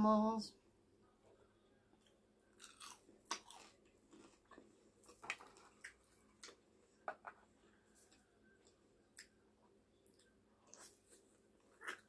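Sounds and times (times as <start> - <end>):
chewing crunchy fries: 1.3 - 7.0, 7.9 - 12.0.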